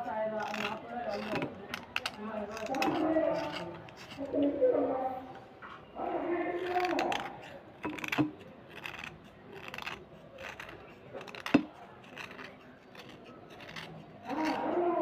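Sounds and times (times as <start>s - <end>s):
knife scraping slate pencil: 0.0s - 4.5s, 6.5s - 15.0s.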